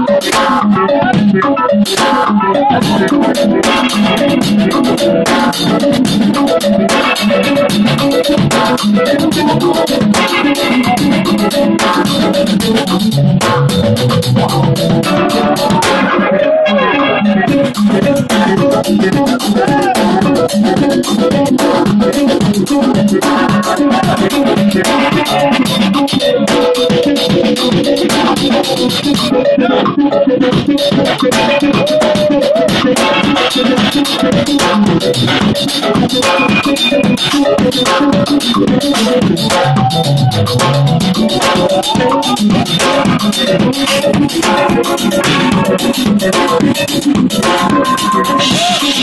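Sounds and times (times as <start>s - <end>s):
drum kit and percussion: 0.0s - 49.0s
electric bass: 0.0s - 49.0s
electric guitar: 0.0s - 49.0s
jazz fusion band playing: 0.0s - 49.0s.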